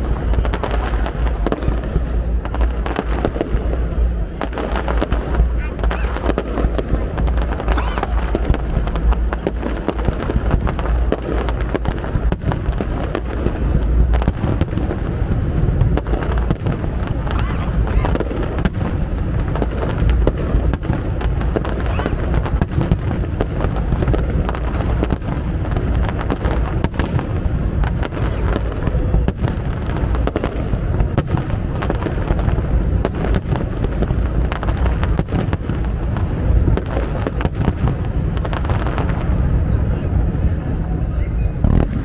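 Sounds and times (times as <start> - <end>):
low rumble: 0.0 - 35.2
fireworks bangs and crackles: 0.0 - 42.0.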